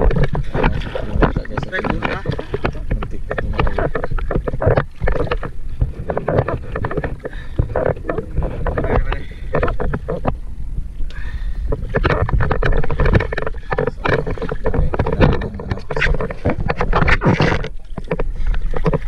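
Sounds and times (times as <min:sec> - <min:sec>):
water splashing against boat hull: 0:00.0 - 0:19.0
wind rumble on microphone: 0:00.0 - 0:19.0.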